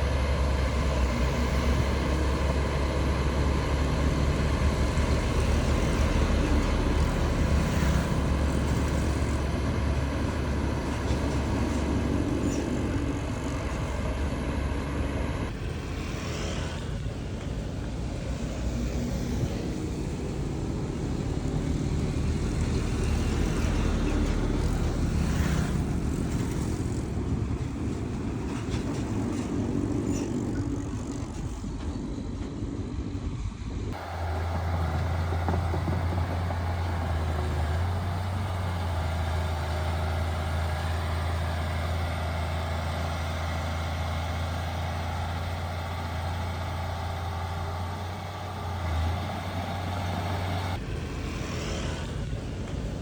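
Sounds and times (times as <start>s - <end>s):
heavy diesel engines rumbling: 0.0s - 53.0s.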